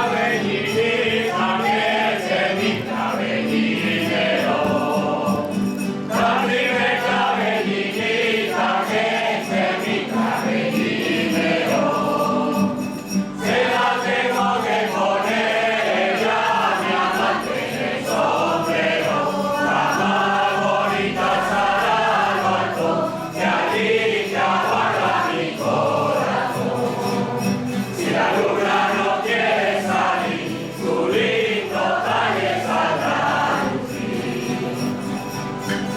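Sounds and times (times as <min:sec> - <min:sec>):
group of voices singing: 0:00.0 - 0:35.9.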